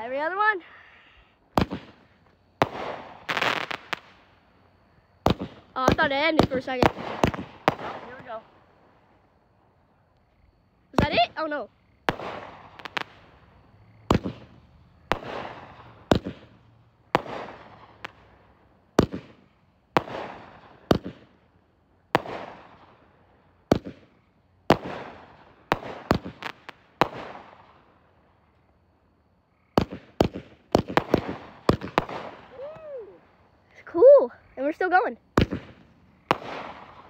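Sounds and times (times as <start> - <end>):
firework crackle: 1.4 - 10.3, 10.9 - 28.6, 29.8 - 33.5, 35.3 - 37.0
firework bangs: 1.5 - 4.6, 5.2 - 9.3, 10.9 - 28.4, 29.7 - 33.5, 35.3 - 37.0.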